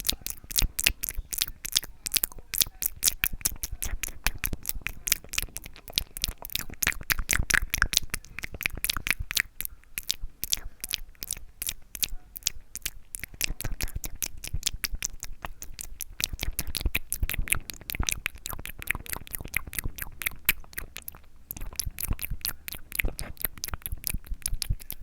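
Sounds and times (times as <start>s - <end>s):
wet mouth clicks and smacks: 0.0s - 25.0s.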